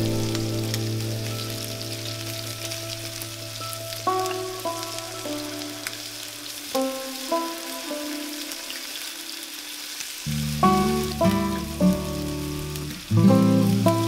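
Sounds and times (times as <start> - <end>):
background music: 0.0 - 9.2, 10.3 - 14.0
food sizzling in oil: 0.0 - 14.0.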